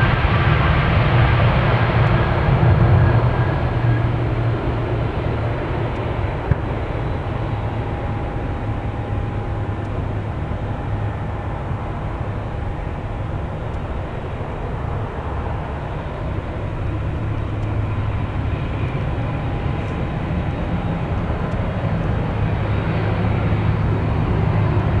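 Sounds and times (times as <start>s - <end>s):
jet engines rumble and hiss: 0.0s - 25.0s.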